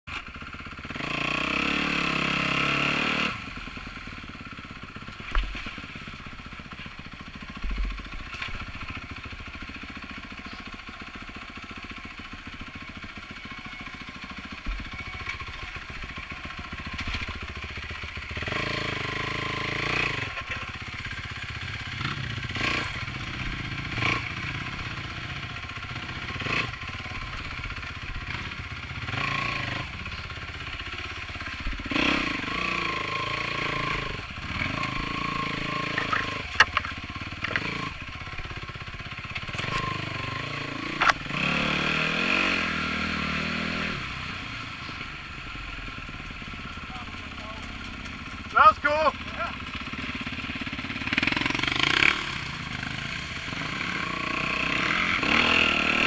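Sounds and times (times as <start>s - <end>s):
dirt bike engine revving: 0.6s - 3.9s, 13.4s - 56.0s.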